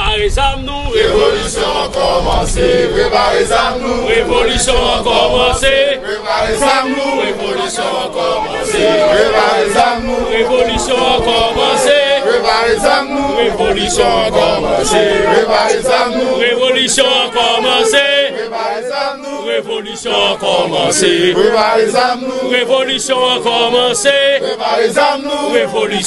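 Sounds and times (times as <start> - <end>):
crowd of men chanting: 0.8 - 26.0.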